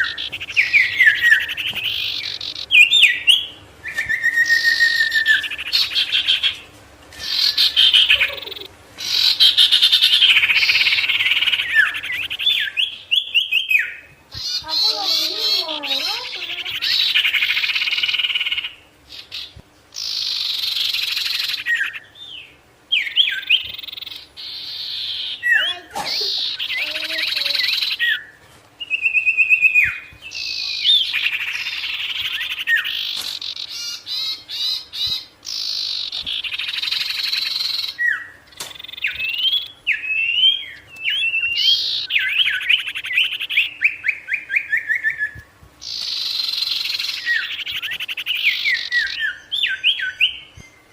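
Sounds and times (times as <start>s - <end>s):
songbird trilling and whistling: 0.0s - 50.9s.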